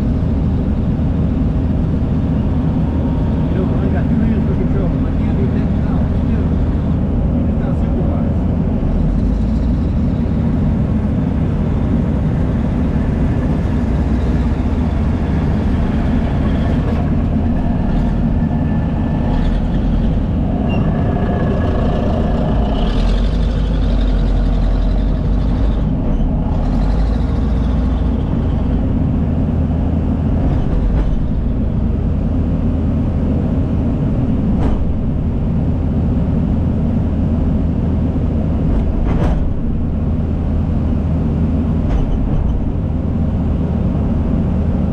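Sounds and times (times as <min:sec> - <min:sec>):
heavy diesel machinery rumbling: 0:00.0 - 0:44.9.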